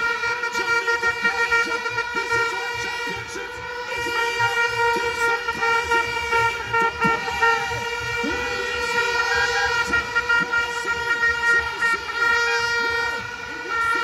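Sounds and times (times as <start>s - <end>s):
horn long steady note: 0.0s - 14.0s.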